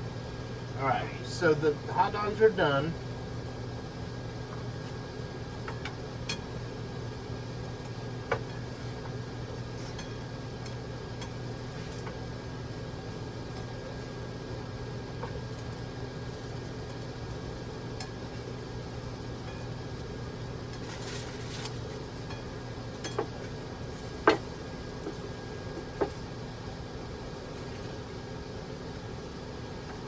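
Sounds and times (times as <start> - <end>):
steady kitchen hum: 0.0 - 30.0.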